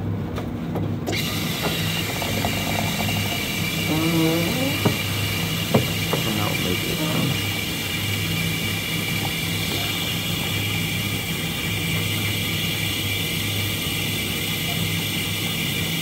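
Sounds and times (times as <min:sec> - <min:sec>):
coffee machine humming and whining: 0:00.0 - 0:16.0.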